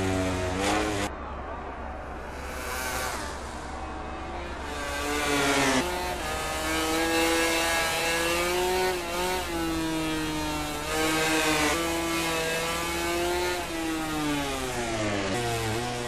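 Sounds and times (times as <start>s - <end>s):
racing motorcycle engine revving: 0.0s - 1.2s, 2.2s - 16.0s.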